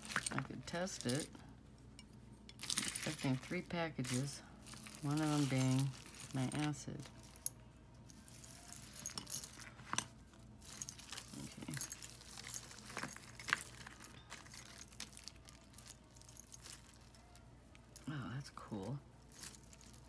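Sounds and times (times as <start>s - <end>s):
jewelry clinking and jangling: 0.0s - 20.0s.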